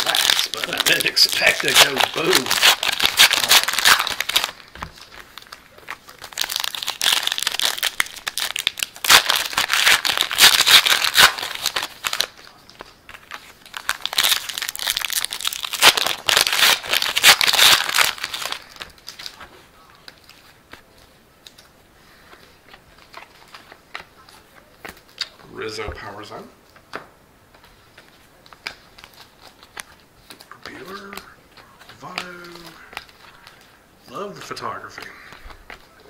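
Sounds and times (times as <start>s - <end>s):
card wrappers crinkling and tearing: 0.0s - 25.4s, 27.6s - 36.0s.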